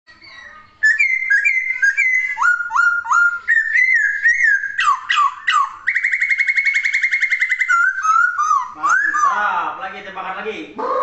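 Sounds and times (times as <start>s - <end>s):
bird singing whistled phrases: 0.2s - 9.5s.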